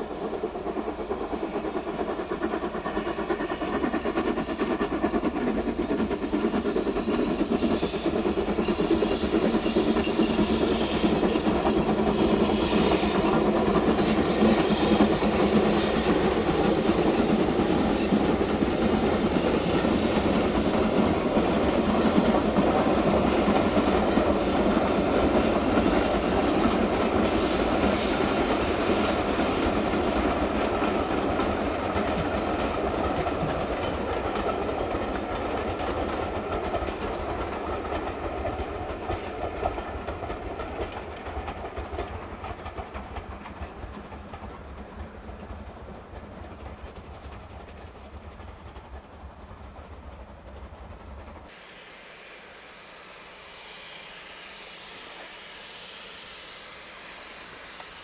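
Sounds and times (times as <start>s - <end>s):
steam locomotive exhaust beats: 0.0s - 58.0s
train wheels on rails: 0.0s - 58.0s.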